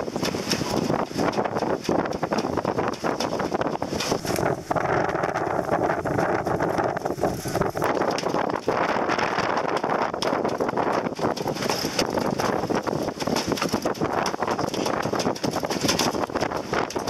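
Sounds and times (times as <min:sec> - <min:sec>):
rapid clicks and knocks: 0:00.0 - 0:17.0
water rushing along hull: 0:00.0 - 0:17.0
wind on microphone: 0:00.0 - 0:17.0.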